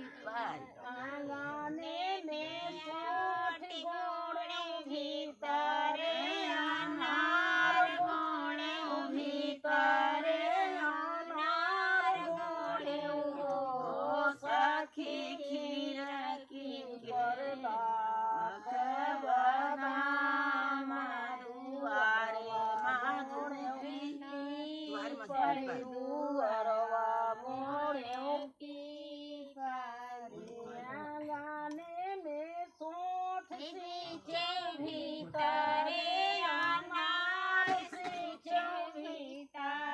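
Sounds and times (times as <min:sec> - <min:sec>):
women singing folk song: 0:00.0 - 0:39.9.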